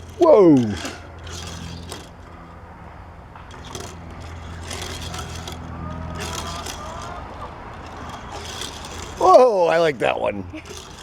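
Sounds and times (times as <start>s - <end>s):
steady low hum: 0.0s - 11.0s
toy car wheels scraping: 0.0s - 11.0s.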